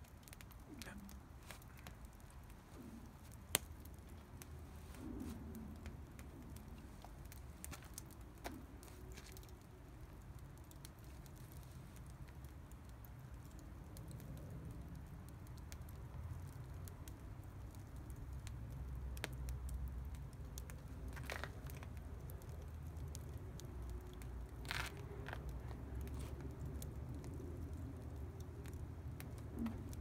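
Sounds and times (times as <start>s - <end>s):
fire popping: 0.0s - 30.0s
low steady rumble: 0.0s - 30.0s
wood fire crackling: 0.0s - 30.0s.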